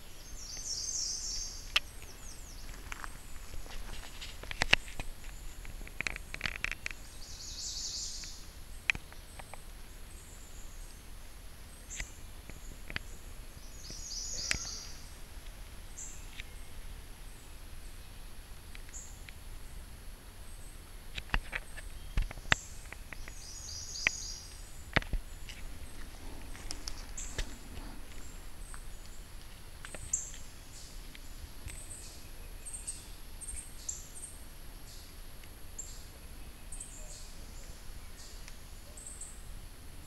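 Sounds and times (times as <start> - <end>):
birds chirping: 0.0 - 35.2, 35.8 - 39.5.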